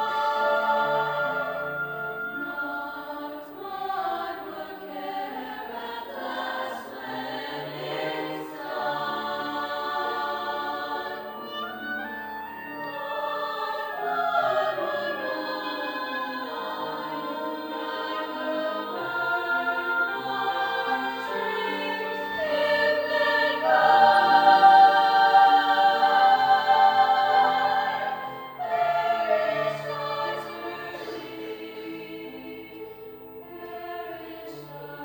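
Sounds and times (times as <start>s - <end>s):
choir singing in harmony: 0.0s - 35.0s.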